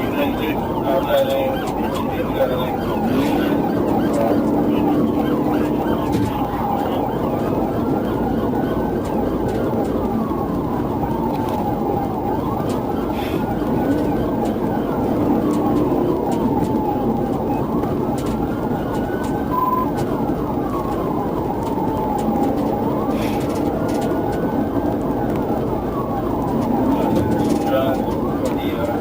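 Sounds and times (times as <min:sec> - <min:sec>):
engine and road noise: 0:00.0 - 0:29.0
police siren wailing: 0:00.0 - 0:29.0.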